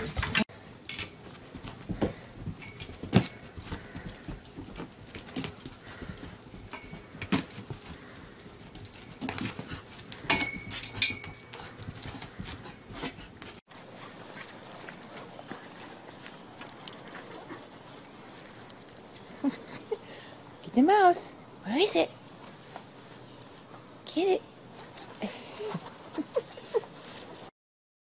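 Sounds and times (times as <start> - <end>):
paws and leash on floor: 0.0 - 20.7, 22.1 - 23.9, 24.6 - 27.5.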